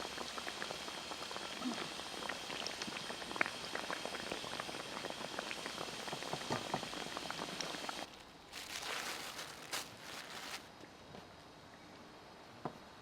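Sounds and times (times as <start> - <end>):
buns deep-frying in oil: 0.0 - 10.8.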